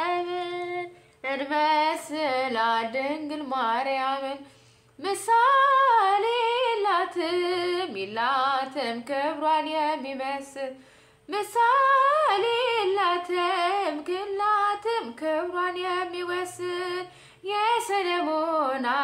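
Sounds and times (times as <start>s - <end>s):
woman singing a hymn unaccompanied: 0.0s - 19.0s.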